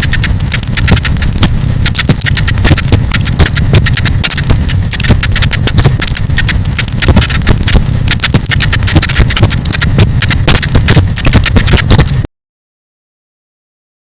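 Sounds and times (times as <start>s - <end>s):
steady low rumble: 0.0s - 12.3s.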